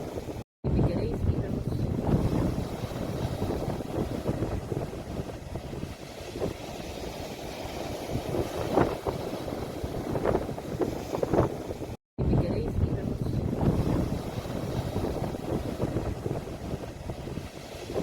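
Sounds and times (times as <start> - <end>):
sea waves washing: 0.0 - 18.0
wind buffeting microphone: 0.0 - 18.0.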